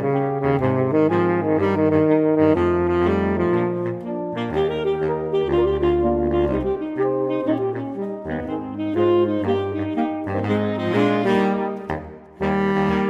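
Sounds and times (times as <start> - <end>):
jazz tune with bass line: 0.0 - 13.0.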